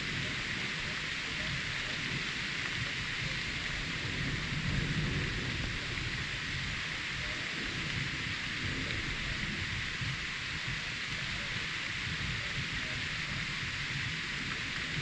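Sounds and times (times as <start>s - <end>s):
low rumble of thunder: 0.0s - 15.0s
steady rain: 0.0s - 15.0s.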